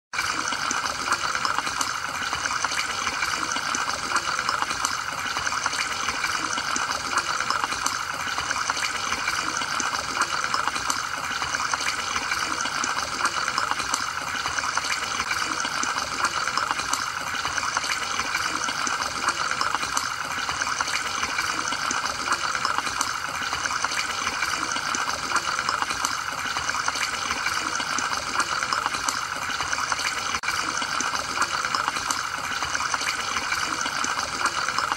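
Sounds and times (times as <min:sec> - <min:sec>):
air bubbling through aquarium filter: 0:00.1 - 0:34.9.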